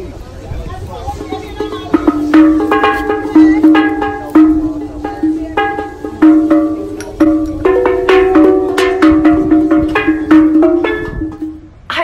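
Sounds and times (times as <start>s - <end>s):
steel pan notes: 1.0s - 12.0s.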